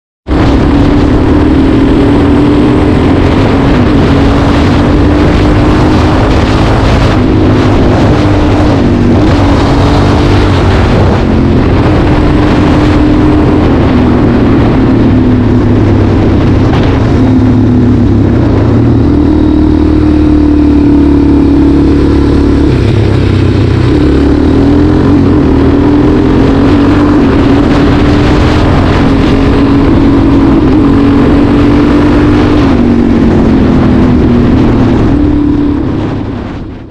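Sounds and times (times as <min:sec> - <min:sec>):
motorcycle engine revving: 0:00.2 - 0:36.9.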